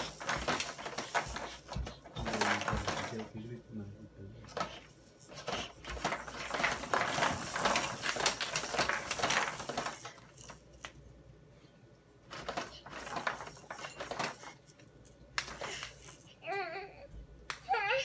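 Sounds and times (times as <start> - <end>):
plastic toys clicking and rattling: 0.0 - 3.4, 4.5 - 11.0, 12.3 - 16.8.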